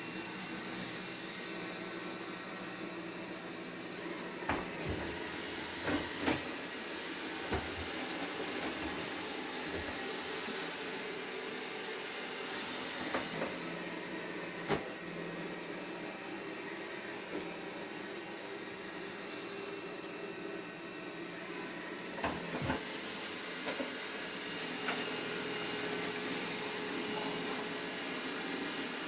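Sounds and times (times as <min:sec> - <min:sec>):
robot vacuum whirring: 0:00.1 - 0:29.0.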